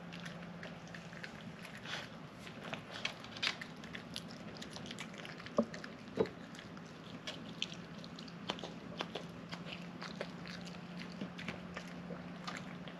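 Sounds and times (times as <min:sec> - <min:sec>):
dog chewing and licking: 0:00.0 - 0:12.9
low steady hum: 0:00.0 - 0:12.9.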